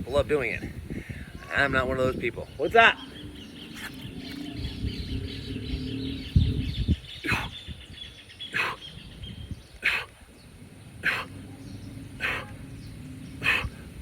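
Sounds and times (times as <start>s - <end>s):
low rumble: 0.6s - 8.1s, 8.9s - 14.0s
bird calls: 1.3s - 14.0s.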